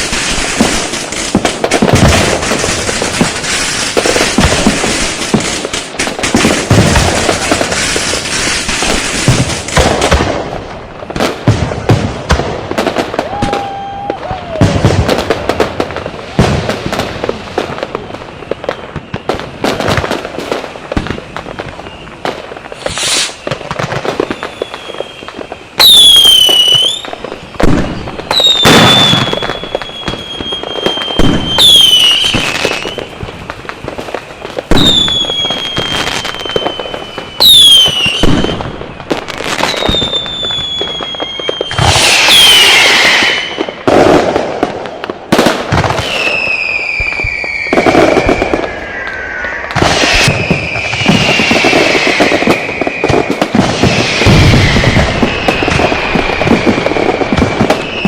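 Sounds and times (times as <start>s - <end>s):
firecrackers banging and crackling: 0.0s - 58.0s
whistling fireworks: 0.0s - 58.0s.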